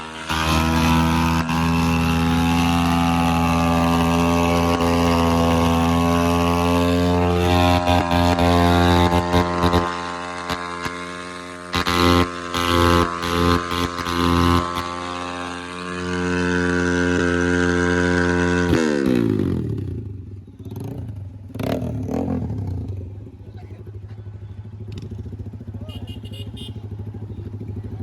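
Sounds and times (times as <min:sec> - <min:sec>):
engine running and slowing: 0:00.0 - 0:28.0.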